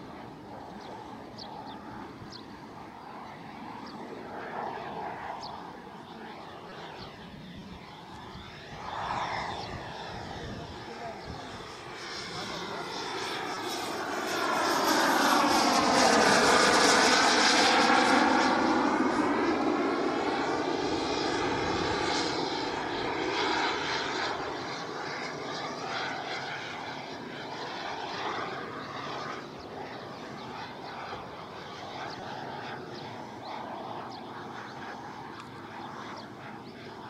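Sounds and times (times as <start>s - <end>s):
model jet flying past: 0.0s - 37.0s.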